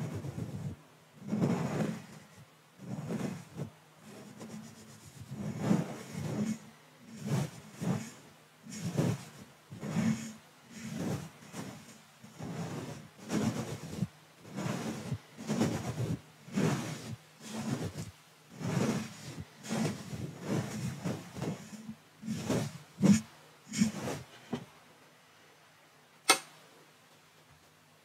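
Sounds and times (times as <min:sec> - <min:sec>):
brush rustling on microphone grille: 0:00.0 - 0:24.4.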